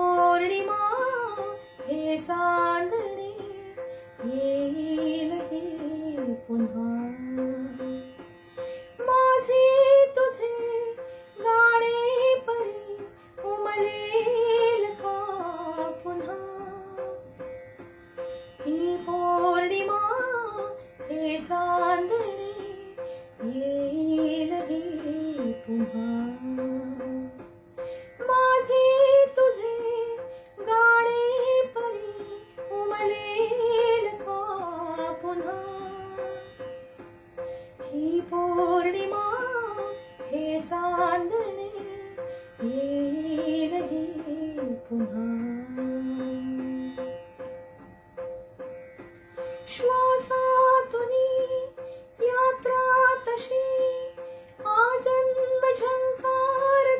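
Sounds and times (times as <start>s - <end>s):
woman singing: 0.0s - 8.3s, 8.9s - 17.4s, 18.6s - 36.6s, 37.7s - 47.3s, 49.6s - 56.9s
instrumental accompaniment: 0.0s - 56.9s.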